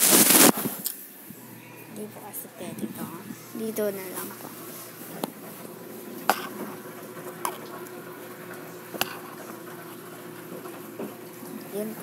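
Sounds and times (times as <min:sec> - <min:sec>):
faint steady hum: 0:00.1 - 0:12.0.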